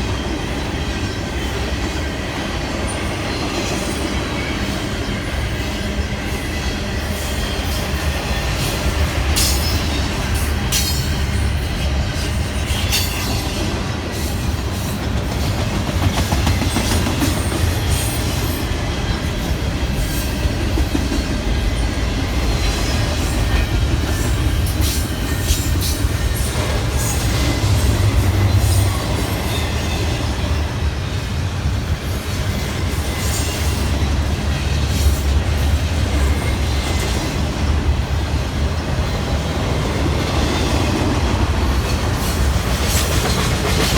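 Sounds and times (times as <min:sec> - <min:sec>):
train rumbling past: 0:00.0 - 0:43.9.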